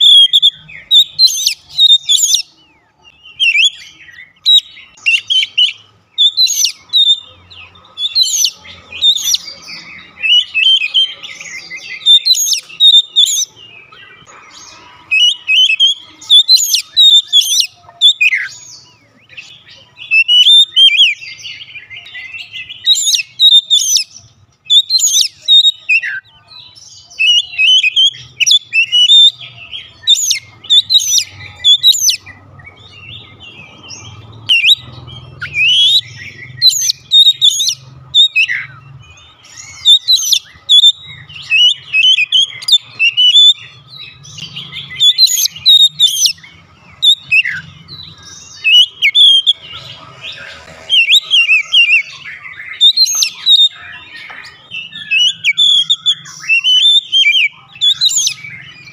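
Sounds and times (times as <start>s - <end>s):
bird singing whistled phrases: 0.0s - 7.3s, 8.0s - 13.5s, 15.1s - 18.6s, 19.2s - 32.4s, 34.4s - 49.8s, 50.8s - 58.9s.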